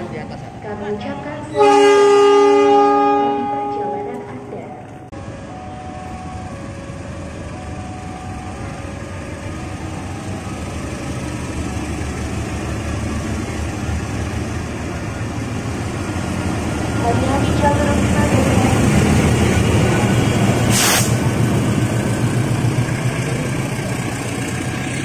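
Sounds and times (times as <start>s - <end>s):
locomotive engine and rail rumble: 0.0s - 25.0s.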